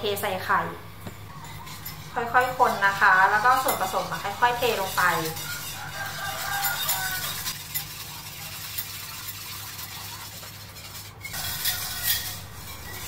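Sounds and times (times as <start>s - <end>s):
whisk stirring eggs in a bowl: 0.2s - 13.0s.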